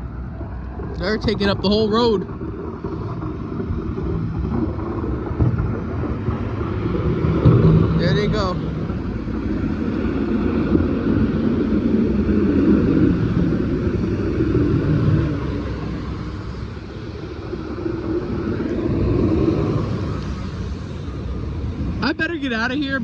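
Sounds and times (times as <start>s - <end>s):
traffic driving past: 0.0s - 23.0s.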